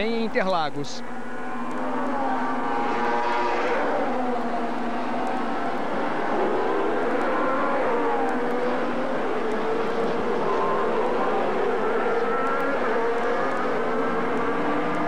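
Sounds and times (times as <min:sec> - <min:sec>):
racing car engines running hard: 0:01.0 - 0:15.0.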